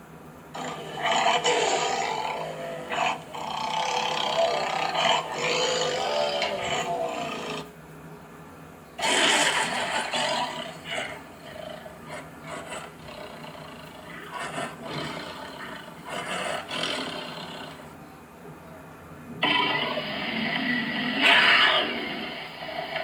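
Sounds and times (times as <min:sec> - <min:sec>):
big cat roaring and growling: 0:00.6 - 0:07.7, 0:09.0 - 0:18.0, 0:19.4 - 0:23.0.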